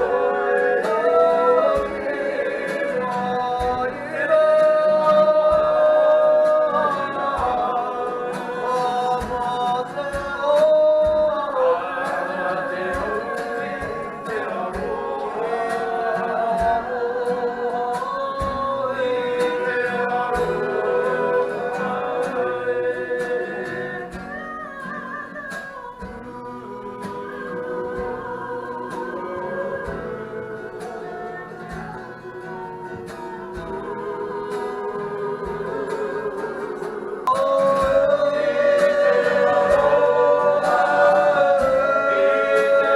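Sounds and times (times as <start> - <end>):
song with singing over a beat: 0.0 - 42.9.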